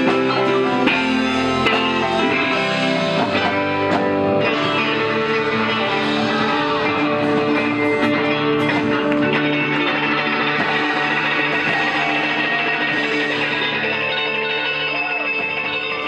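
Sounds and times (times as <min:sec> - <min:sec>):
drums: 0:00.0 - 0:16.0
electric guitars with sustained notes: 0:00.0 - 0:16.0
keyboard: 0:00.0 - 0:16.0.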